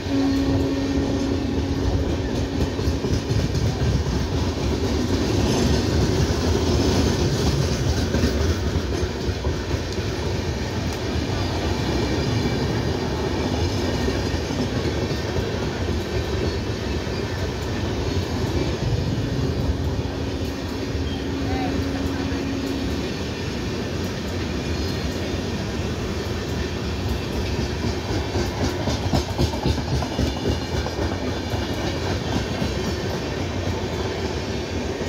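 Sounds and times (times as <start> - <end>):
clickety-clack over rail joints: 0.0 - 35.0
train wheels rumbling on rails: 0.0 - 35.0.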